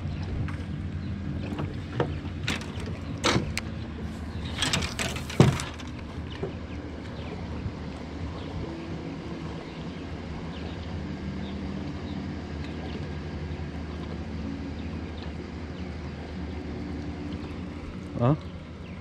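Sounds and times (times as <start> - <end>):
trolling motor humming: 0.0 - 19.0.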